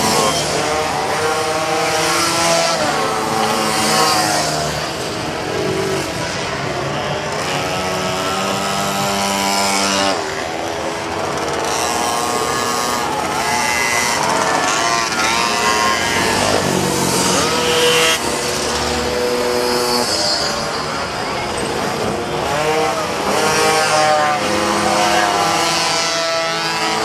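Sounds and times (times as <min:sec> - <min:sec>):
small motorbike engines revving past: 0:00.0 - 0:27.0.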